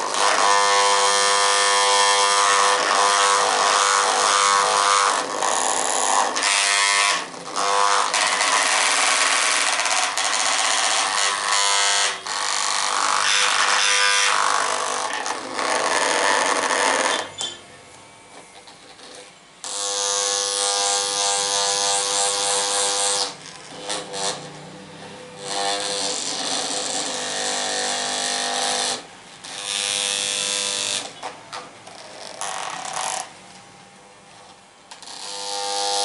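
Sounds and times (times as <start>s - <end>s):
small electric motor buzzing: 0.0s - 17.6s, 18.6s - 33.3s, 34.9s - 36.0s.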